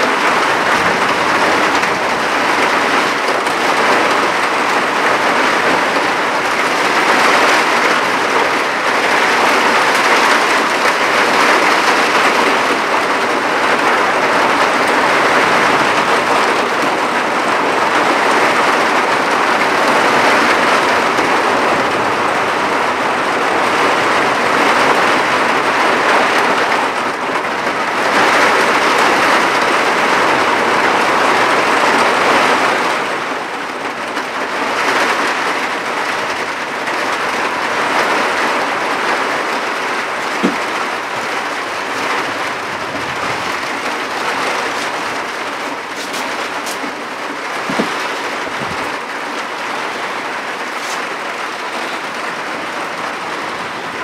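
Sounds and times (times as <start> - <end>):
heavy rain on tiles: 0.0 - 54.0.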